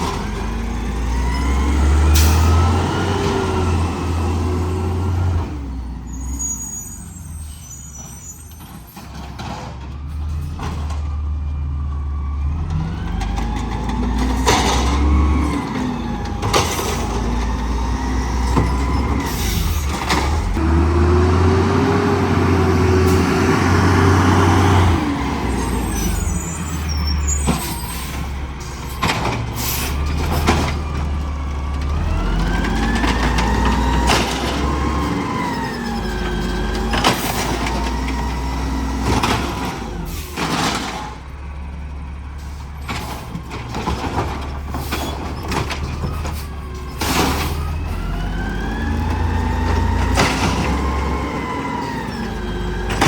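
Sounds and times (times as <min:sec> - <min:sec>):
garbage truck diesel engine revving: 0:00.0 - 0:06.7, 0:10.0 - 0:53.0.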